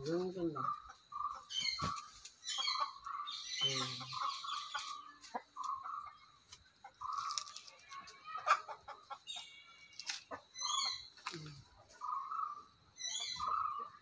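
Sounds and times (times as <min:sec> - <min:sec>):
chickens clucking: 0:00.0 - 0:14.0
high chirping calls: 0:00.0 - 0:14.0.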